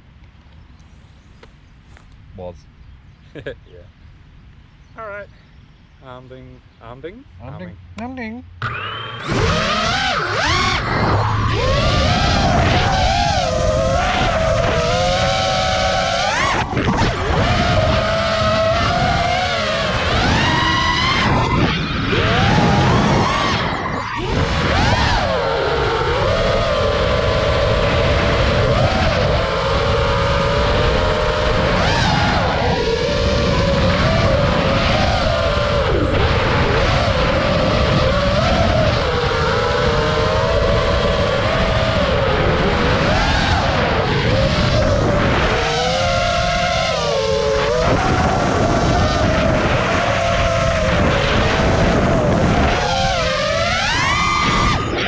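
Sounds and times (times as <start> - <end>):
low rumble: 4.8 - 55.0
drone motors whining: 6.0 - 55.0.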